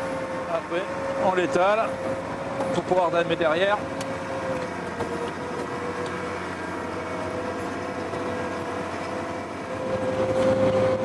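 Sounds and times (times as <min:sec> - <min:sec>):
engine droning under load: 0:00.0 - 0:11.0
steady whining tone: 0:00.0 - 0:11.0.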